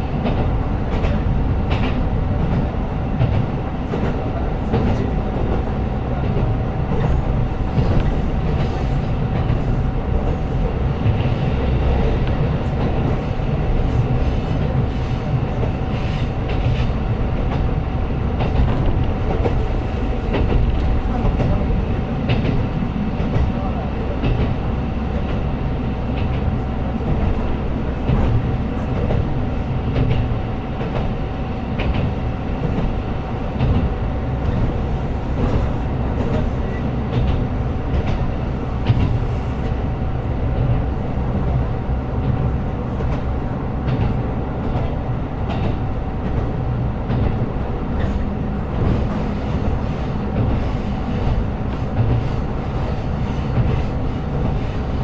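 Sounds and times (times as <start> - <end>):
diesel railcar rumble and whine: 0.0 - 55.0.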